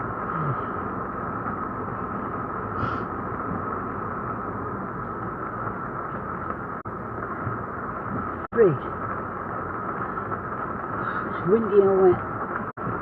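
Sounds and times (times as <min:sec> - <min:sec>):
rushing noise inside car: 0:00.0 - 0:13.0.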